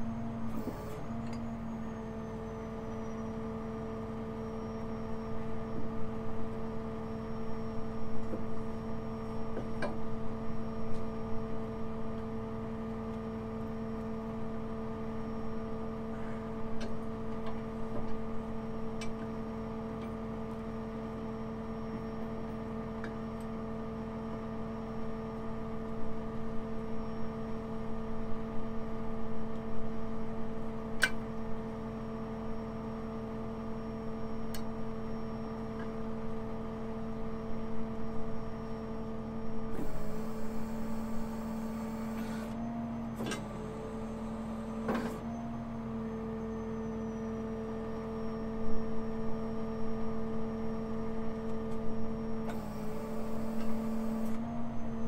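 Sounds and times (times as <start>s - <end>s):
crane engine and hydraulics humming: 0.0s - 55.0s.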